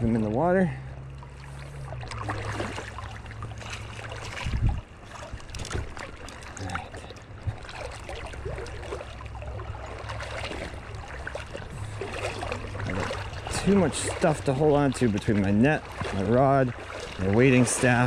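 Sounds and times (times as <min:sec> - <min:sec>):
creek water splashing: 0:00.0 - 0:18.0.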